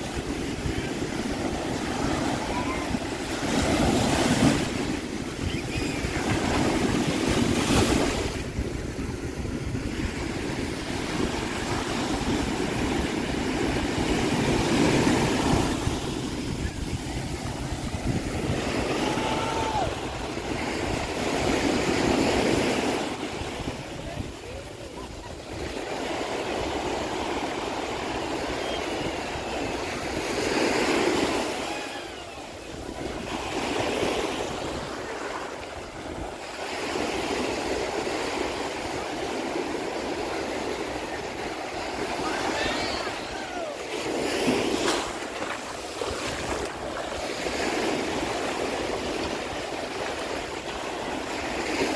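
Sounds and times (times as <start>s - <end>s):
ocean surf breaking: 0.0s - 51.9s
wind rumbling on microphone: 0.0s - 51.9s.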